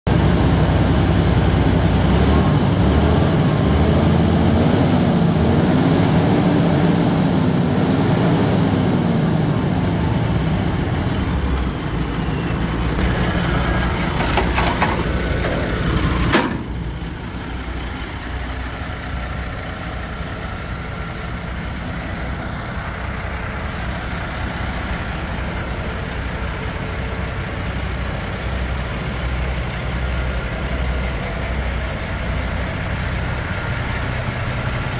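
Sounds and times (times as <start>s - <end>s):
truck diesel engine idling: 0.1s - 4.2s, 7.2s - 34.9s.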